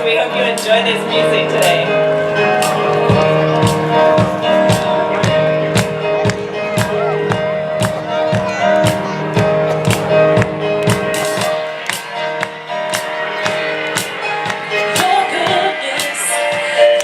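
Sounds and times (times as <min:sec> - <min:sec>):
piano chords: 0:00.0 - 0:17.0
steady drum beat: 0:00.5 - 0:16.1.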